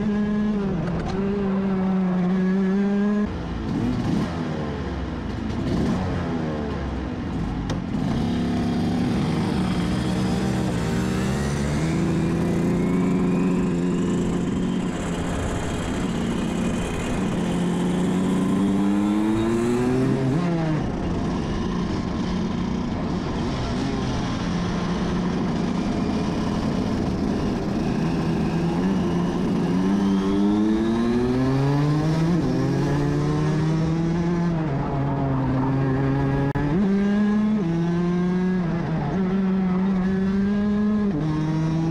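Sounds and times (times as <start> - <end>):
kart engine revving: 7.9 - 41.9.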